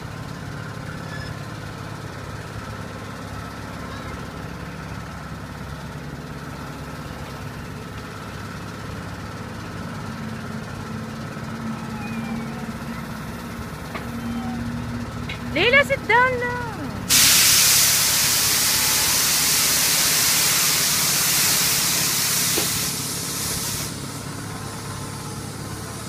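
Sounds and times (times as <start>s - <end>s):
ride machinery humming: 0.0s - 26.0s.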